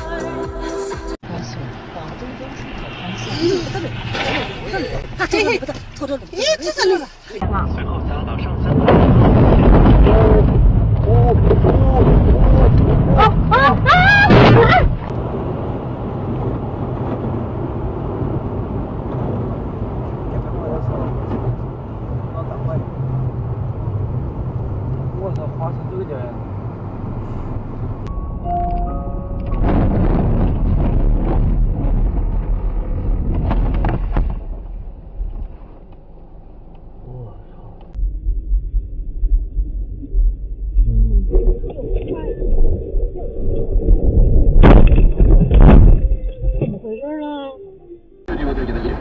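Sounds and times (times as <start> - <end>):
car engine and road noise: 0.0 - 49.0
vehicle rumble: 0.0 - 49.0
wind rumble: 1.2 - 49.0.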